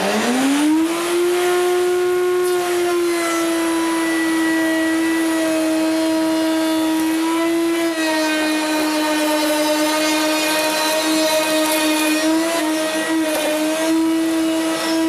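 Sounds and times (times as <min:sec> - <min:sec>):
router bit cutting wood: 0:00.0 - 0:15.0
router whining: 0:00.0 - 0:15.0.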